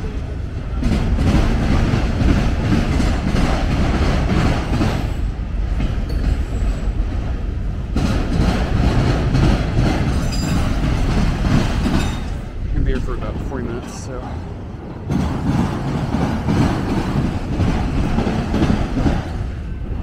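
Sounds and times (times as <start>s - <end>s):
freight train wheels rumbling: 0.0s - 20.0s
wheels clacking on rail joints: 0.0s - 20.0s.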